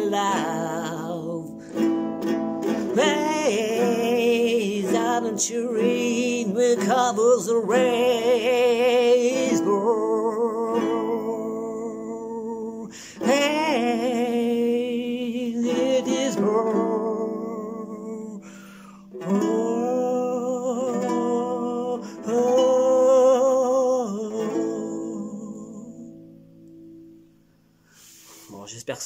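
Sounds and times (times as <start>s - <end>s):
man singing long held notes: 0.0s - 2.0s, 2.7s - 26.3s
strummed acoustic guitar: 0.0s - 28.6s.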